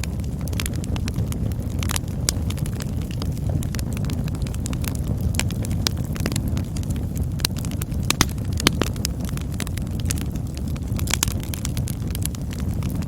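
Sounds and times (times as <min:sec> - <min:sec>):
burning wood crackling and popping: 0:00.0 - 0:13.0
campfire flames rumbling: 0:00.0 - 0:13.0.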